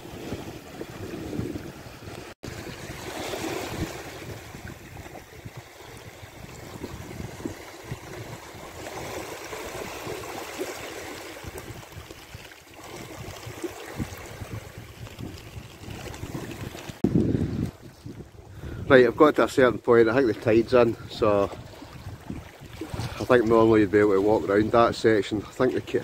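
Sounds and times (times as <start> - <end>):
small waves lapping on shore: 0.0 - 26.0
wind rumbling on microphone: 0.0 - 26.0.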